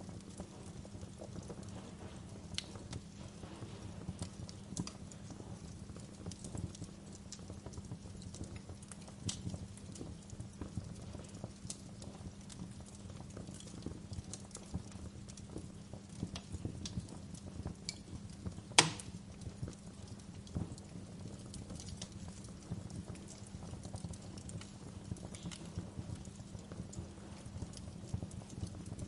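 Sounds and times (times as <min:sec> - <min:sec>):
faint low hum: 0:00.0 - 0:29.0
wood fire crackling: 0:00.0 - 0:29.0.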